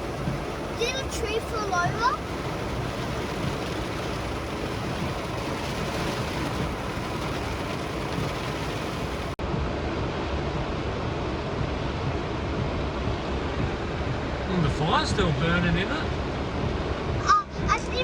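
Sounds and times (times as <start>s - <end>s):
heavy rain on a car: 0.0s - 18.0s.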